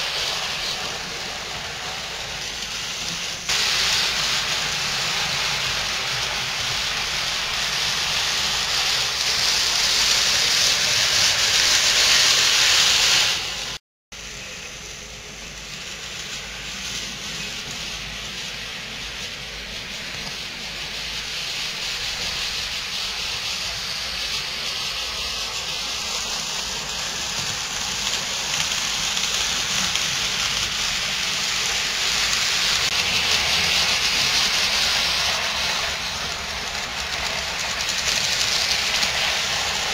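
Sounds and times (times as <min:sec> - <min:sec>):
model trains wheels and motors hissing: 0:00.0 - 0:39.9.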